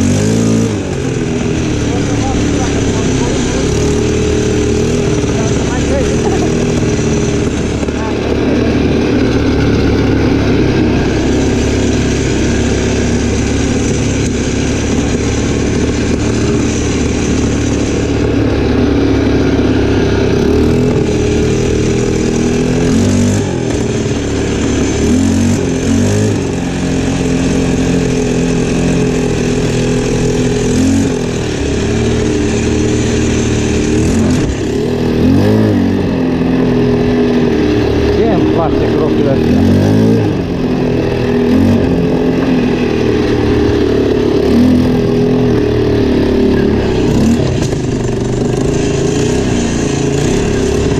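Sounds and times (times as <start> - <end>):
atv engine revving: 0.0 - 50.9.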